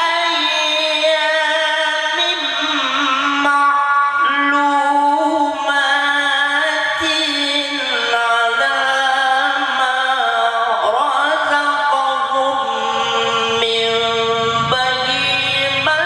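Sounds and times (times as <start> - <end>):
man reciting in melodic voice: 0.0 - 16.0.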